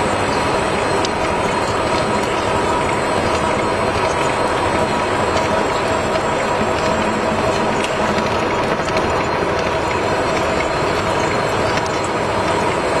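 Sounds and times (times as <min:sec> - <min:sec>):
gear cutting machine running: 0:00.0 - 0:13.0.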